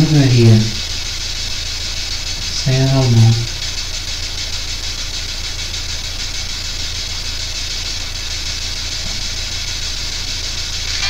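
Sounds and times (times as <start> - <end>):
low electrical hum: 0.0 - 11.0
radio static hiss: 0.0 - 11.0.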